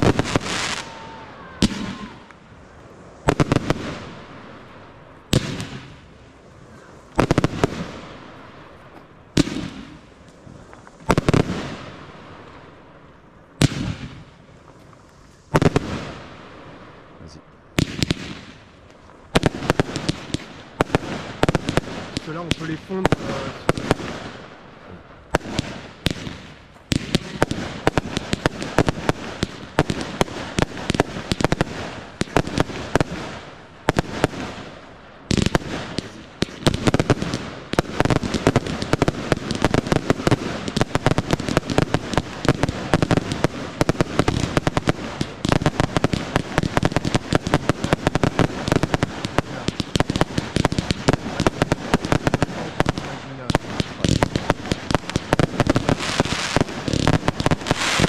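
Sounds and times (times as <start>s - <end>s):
fireworks bursts and bangs: 0.0s - 58.0s.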